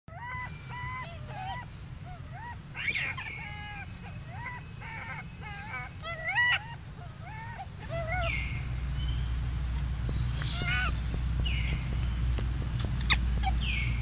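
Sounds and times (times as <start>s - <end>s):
baby monkey coo calls: 0.1s - 9.4s, 10.2s - 14.0s.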